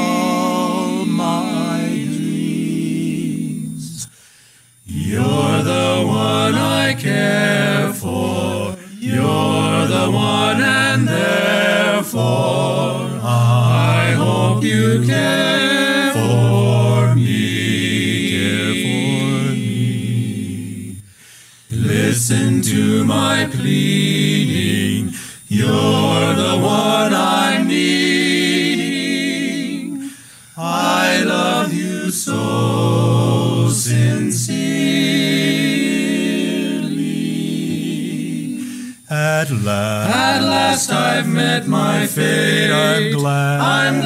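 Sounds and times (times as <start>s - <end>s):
male vocal quartet singing: 0.0s - 44.0s.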